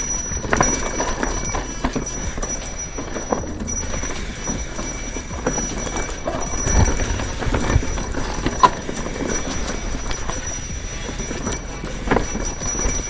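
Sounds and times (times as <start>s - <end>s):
bicycle rattling over rough trail: 0.0s - 13.0s
low rumble: 0.0s - 13.0s.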